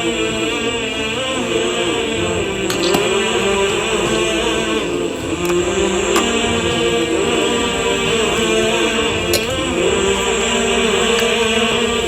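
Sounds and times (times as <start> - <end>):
chant-like singing: 0.0 - 12.0
sustained tones: 0.0 - 12.0.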